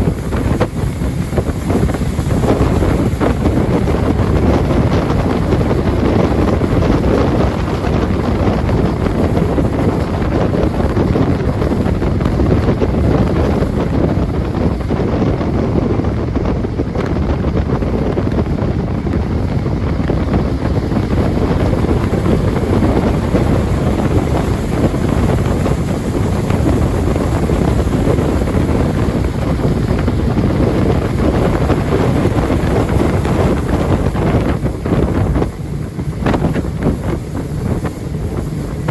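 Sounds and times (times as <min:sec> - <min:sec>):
jet boat rushing: 0:00.0 - 0:38.9
wind buffeting microphone: 0:00.0 - 0:38.9.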